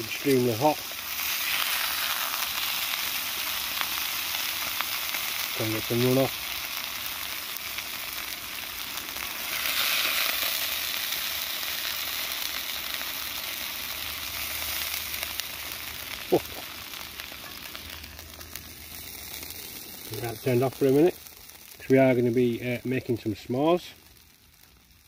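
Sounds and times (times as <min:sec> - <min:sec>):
steaks sizzling in a frying pan: 0:00.0 - 0:25.0.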